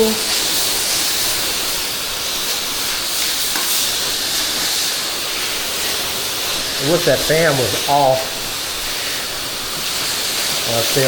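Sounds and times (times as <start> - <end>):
pressure washer spray hiss: 0.0 - 11.0.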